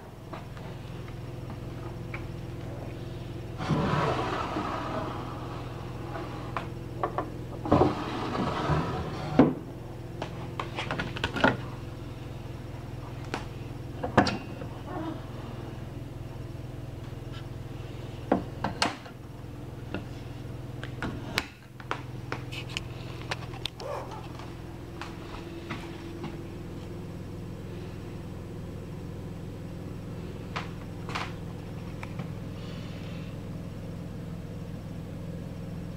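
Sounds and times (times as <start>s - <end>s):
low hum: 0.0s - 35.9s.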